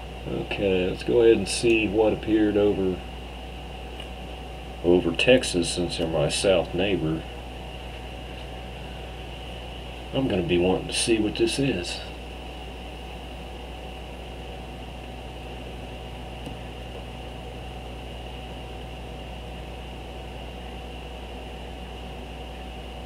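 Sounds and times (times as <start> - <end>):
computer hum and hiss: 0.0 - 23.0.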